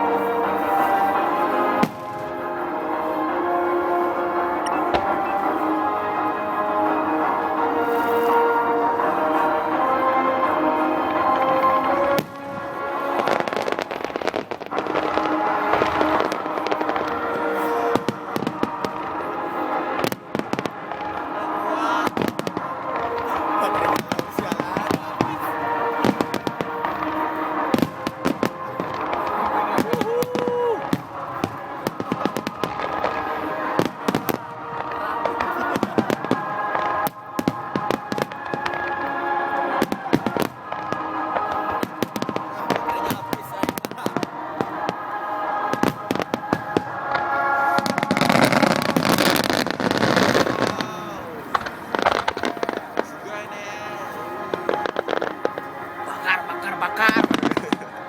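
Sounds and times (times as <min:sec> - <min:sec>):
fireworks bangs and crackles: 0:00.0 - 0:58.0
steady background noise: 0:00.0 - 0:58.0.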